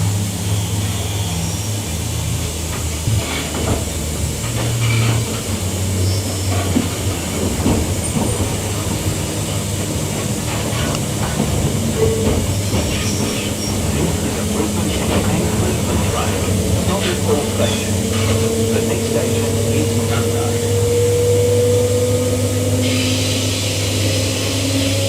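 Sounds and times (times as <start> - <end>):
train low hum: 0.0 - 25.0
wheels rumbling on track: 0.0 - 25.0.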